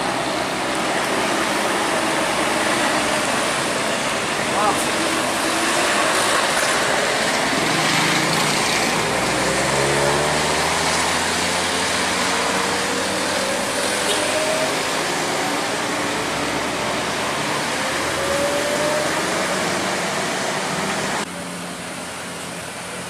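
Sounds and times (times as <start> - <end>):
heavy truck engine: 0.0 - 23.0
road noise: 0.0 - 23.0.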